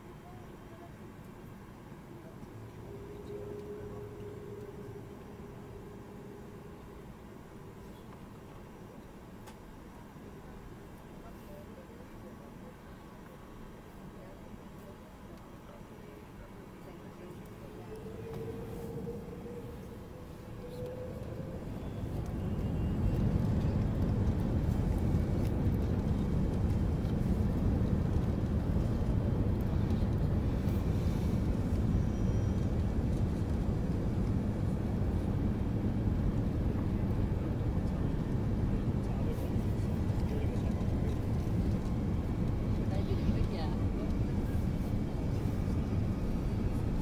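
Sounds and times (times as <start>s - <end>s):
jet engines rumbling in cabin: 0.0s - 47.0s.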